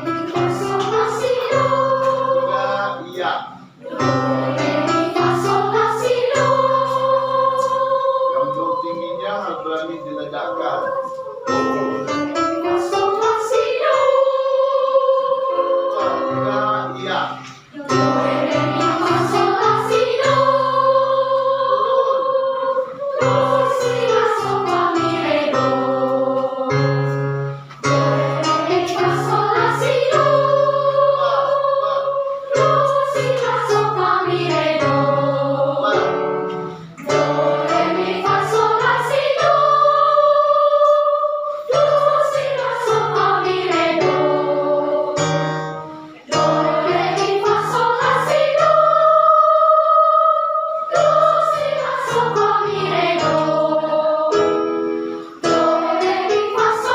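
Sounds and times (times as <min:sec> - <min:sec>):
children's choir singing: 0:00.0 - 0:56.9
instrumental accompaniment: 0:00.0 - 0:56.9.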